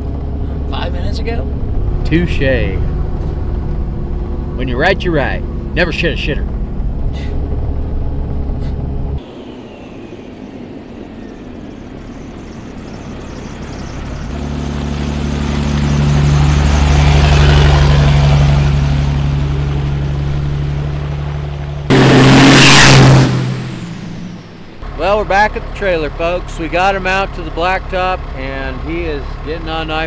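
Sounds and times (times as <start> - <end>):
close-up engine: 0.0 - 30.0
truck driving past: 0.0 - 30.0.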